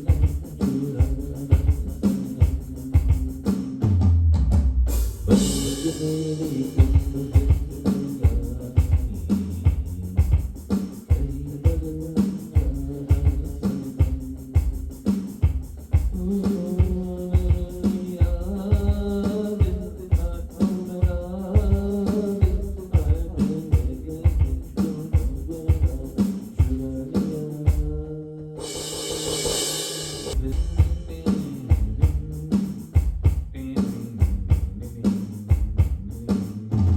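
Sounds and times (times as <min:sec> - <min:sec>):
music with drum beat and bass: 0:00.0 - 0:36.9.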